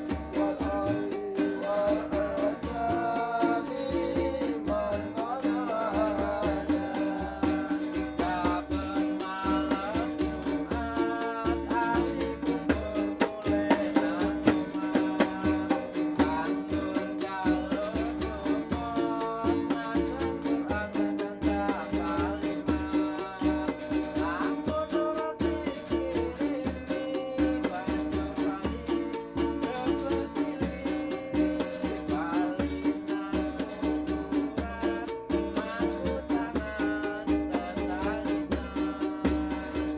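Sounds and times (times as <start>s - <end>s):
shaker rattling: 0.0s - 39.9s
steady drum beat: 0.0s - 39.9s.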